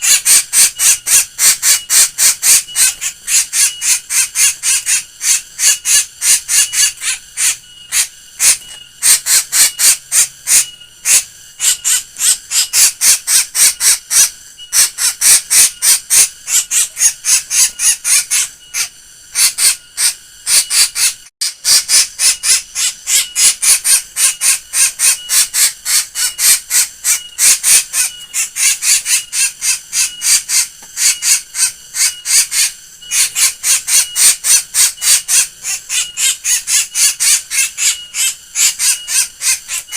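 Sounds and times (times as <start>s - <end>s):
bird laughing call: 0.0s - 39.9s.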